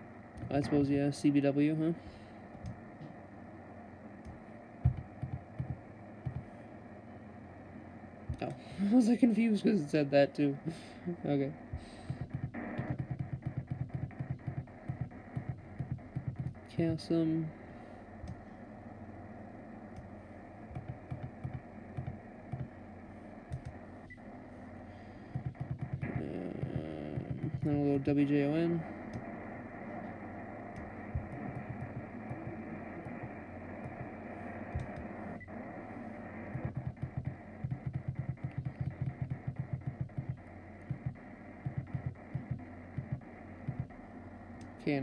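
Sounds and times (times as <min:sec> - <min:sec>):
radio static and buzz: 0:00.0 - 0:45.0.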